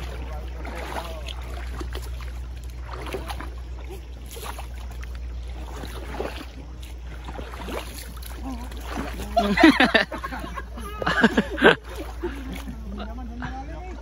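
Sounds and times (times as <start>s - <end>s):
steady low rumble: 0.0s - 14.0s
water sloshing and splashing: 0.0s - 14.0s.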